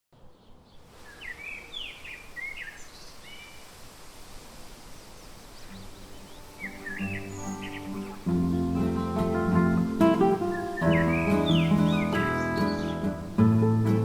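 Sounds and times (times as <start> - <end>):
songbirds chirping: 0.1 - 14.0
steady outdoor hiss: 0.2 - 14.0.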